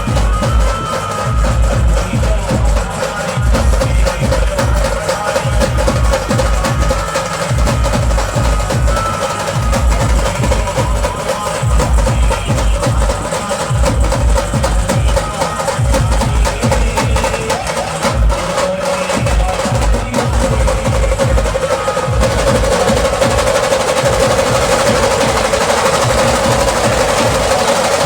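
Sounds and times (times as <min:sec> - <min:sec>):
fast heavy drumming: 0:00.0 - 0:28.0
held melody line: 0:00.0 - 0:28.0.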